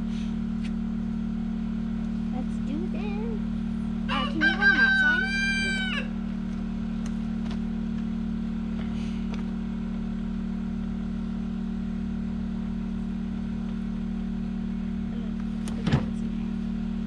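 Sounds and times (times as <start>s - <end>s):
generator engine idling: 0.0s - 17.0s.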